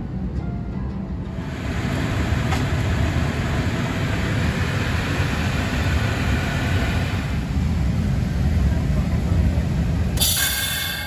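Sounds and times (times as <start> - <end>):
aircraft rumble and hiss: 1.0 - 11.0.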